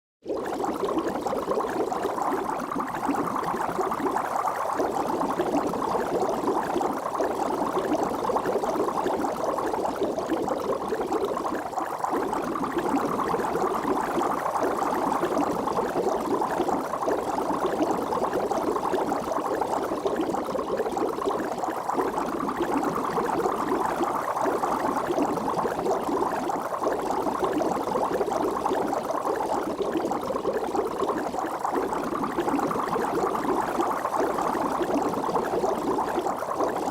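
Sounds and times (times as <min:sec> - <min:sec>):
water bubbling: 0:00.3 - 0:36.9.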